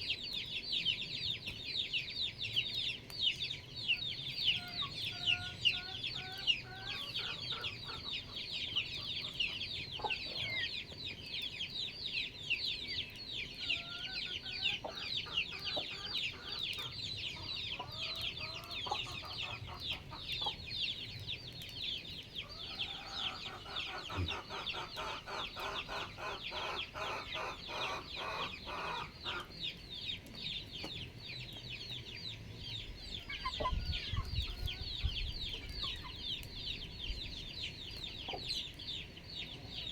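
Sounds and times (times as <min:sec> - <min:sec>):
small birds chirping: 0:00.0 - 0:39.9
chickens clucking: 0:02.2 - 0:39.9.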